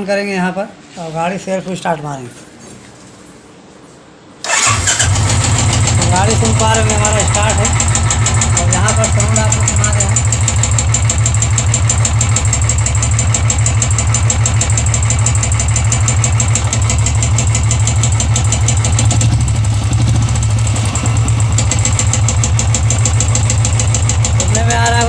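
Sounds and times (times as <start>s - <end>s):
motorcycle engine idling: 4.5s - 25.0s
rapid engine ticking: 4.5s - 25.0s.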